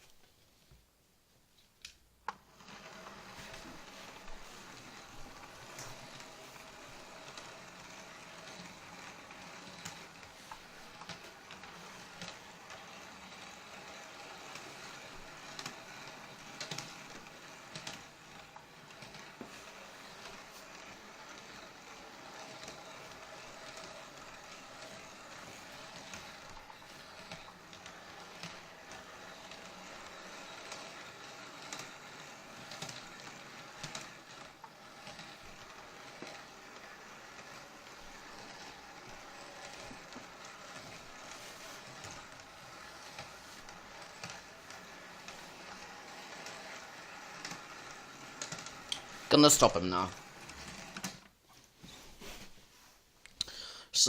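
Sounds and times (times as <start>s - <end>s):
model train motor whirring: 2.3s - 51.3s
model train clicks: 5.7s - 51.2s.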